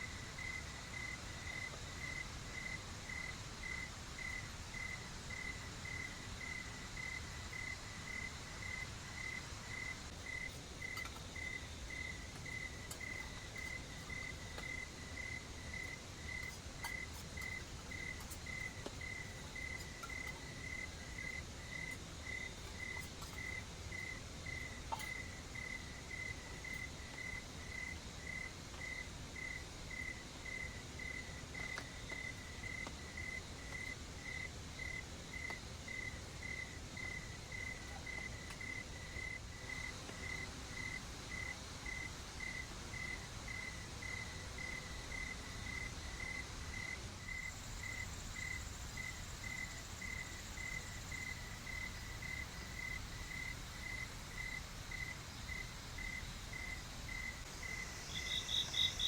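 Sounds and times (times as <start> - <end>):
cricket chirping: 0.0 - 59.0
steady background hiss: 0.0 - 59.0.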